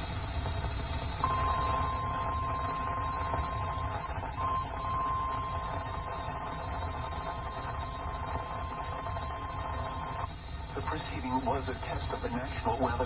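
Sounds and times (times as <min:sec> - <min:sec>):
static hiss: 0:00.0 - 0:13.0
steady warning alarm tone: 0:00.0 - 0:13.0.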